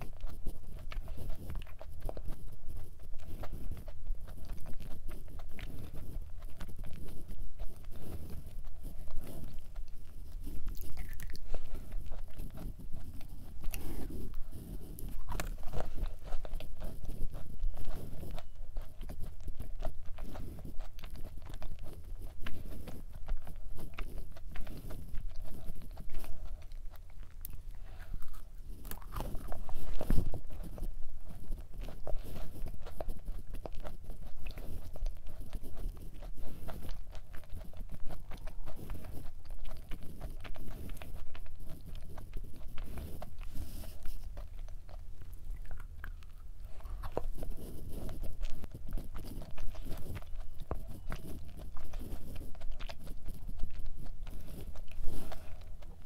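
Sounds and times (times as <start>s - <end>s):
person chewing crunchy cookie: 0.0s - 56.0s.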